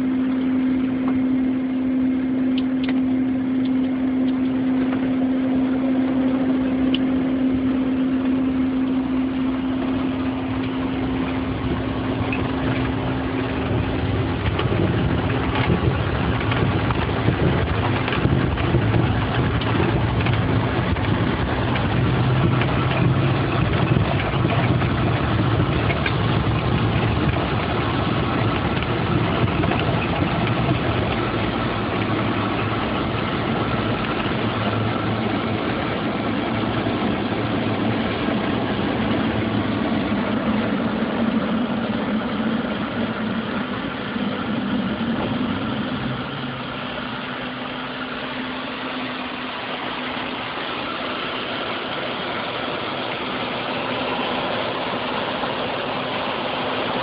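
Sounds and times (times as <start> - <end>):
jet cockpit engine rush: 0.0 - 57.0.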